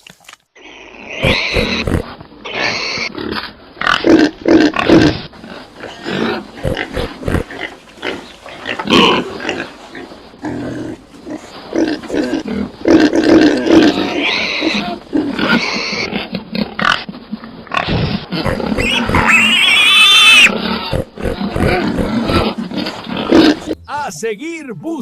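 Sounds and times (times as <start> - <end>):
pig high-pitched calls: 0.6 - 9.7, 10.5 - 17.1, 17.7 - 23.8
pig grunting: 0.6 - 23.9.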